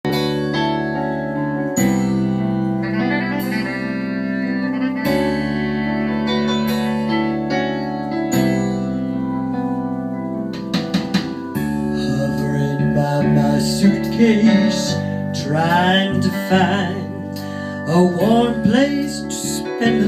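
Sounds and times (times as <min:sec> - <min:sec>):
sustained instrumental chords: 0:00.0 - 0:20.0.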